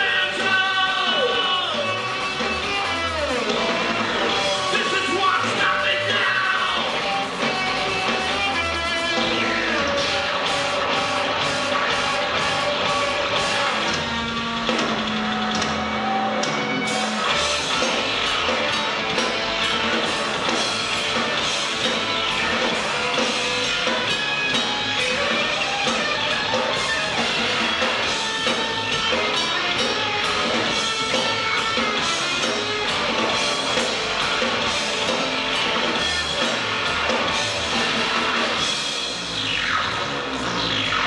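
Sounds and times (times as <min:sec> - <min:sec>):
distorted electric guitar: 0:00.0 - 0:41.0
falling guitar effects: 0:00.0 - 0:41.0
pounding drum kit: 0:00.0 - 0:41.0.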